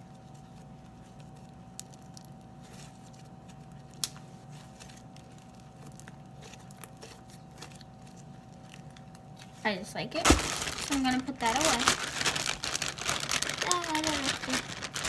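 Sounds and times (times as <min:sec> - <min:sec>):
slime squishing and crackling: 0:00.0 - 0:09.5, 0:10.1 - 0:15.0
steady low hum: 0:00.0 - 0:15.0.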